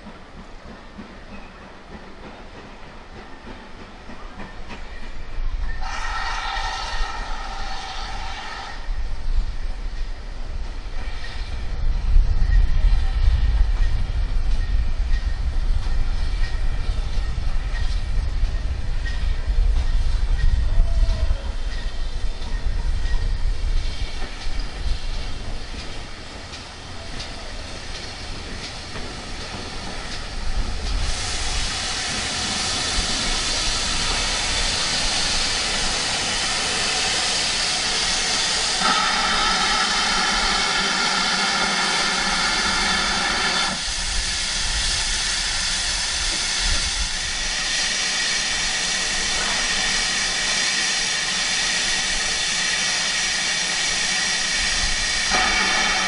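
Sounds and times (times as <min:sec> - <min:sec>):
steam locomotive rumble: 0:00.0 - 0:56.0
steam hissing: 0:01.2 - 0:56.0.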